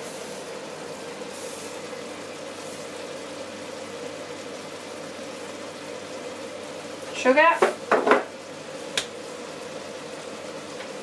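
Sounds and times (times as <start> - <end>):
chicken sizzling in a wok: 0.0 - 11.0.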